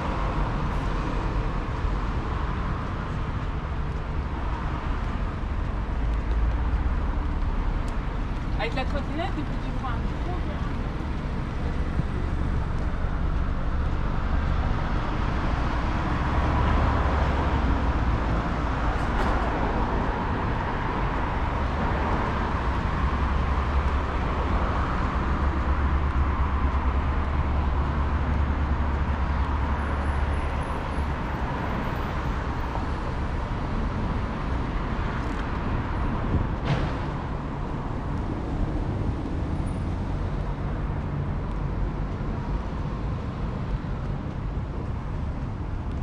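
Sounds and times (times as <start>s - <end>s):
city street traffic: 0.0s - 46.0s.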